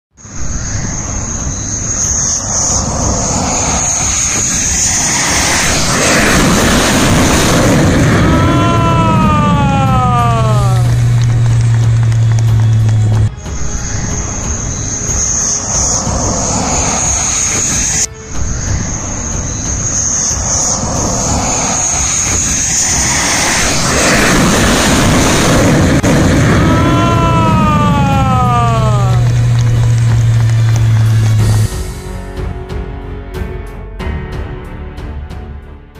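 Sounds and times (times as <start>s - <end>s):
jet engine with high-pitched whine: 0.2s - 32.0s.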